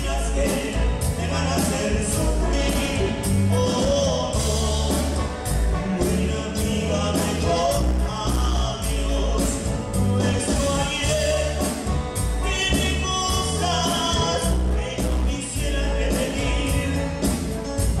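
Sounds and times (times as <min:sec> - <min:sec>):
live band playing cumbia: 0:00.0 - 0:18.0
person singing: 0:00.0 - 0:18.0.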